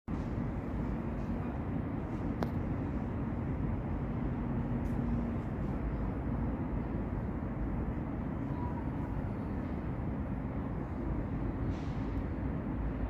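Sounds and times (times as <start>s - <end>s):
faint hum: 0.1s - 13.0s
low outdoor rumble: 0.1s - 13.0s.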